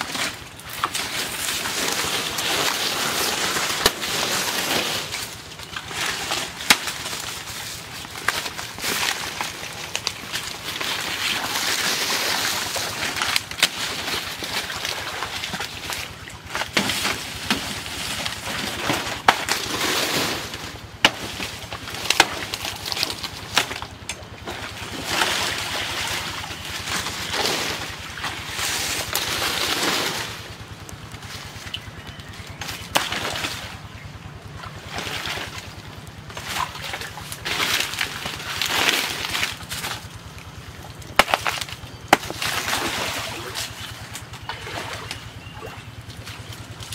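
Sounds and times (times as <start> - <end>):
dry leaves rustling: 0.0 - 46.9.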